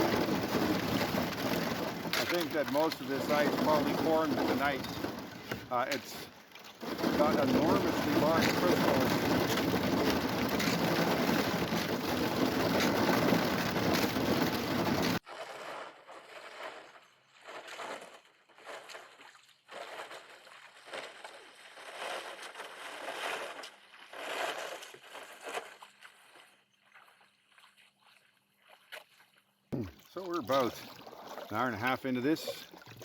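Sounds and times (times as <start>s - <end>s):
canoe hull crunching through ice: 0.0s - 26.6s, 29.8s - 33.0s.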